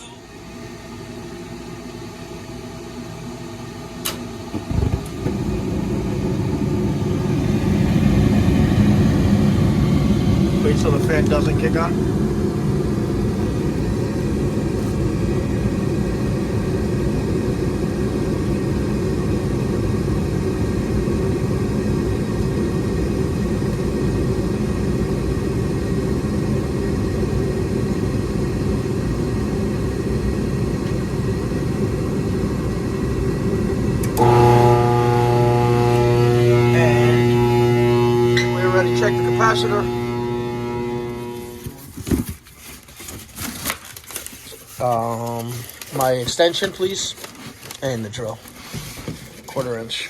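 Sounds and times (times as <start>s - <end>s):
gas furnace low rumble: 0.0s - 42.0s, 43.8s - 50.0s
steady hum with even tones: 0.0s - 42.2s.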